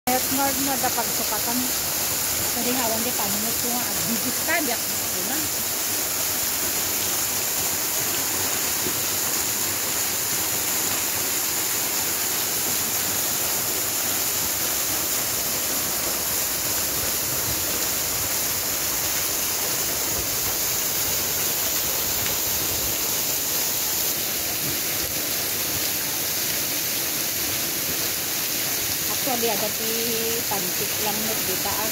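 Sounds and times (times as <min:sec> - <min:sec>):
waterfall pouring onto rocks: 0:00.1 - 0:31.9.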